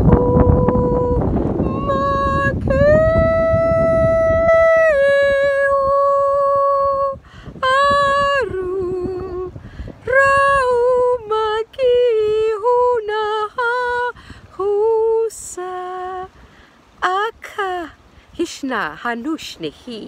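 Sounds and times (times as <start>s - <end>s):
woman singing a mantra: 0.0s - 16.4s, 17.0s - 20.0s.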